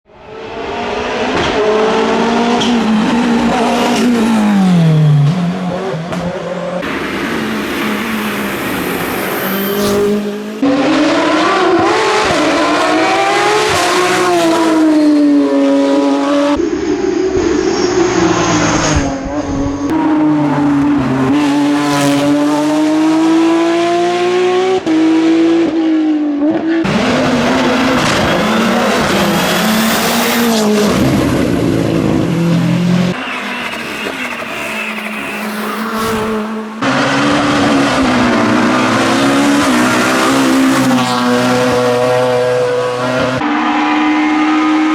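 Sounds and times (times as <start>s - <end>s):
racing car engines at full throttle: 0.0s - 44.9s.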